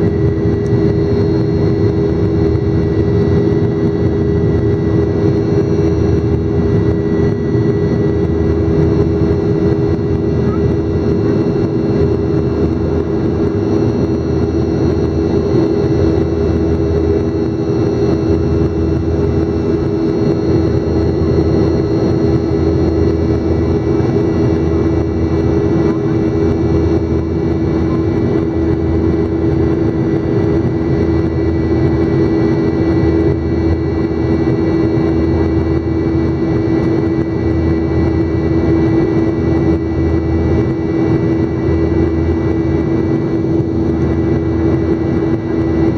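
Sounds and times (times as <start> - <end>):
faint high engine whines: 0.0 - 45.9
jet engines drone in cabin: 0.0 - 45.9.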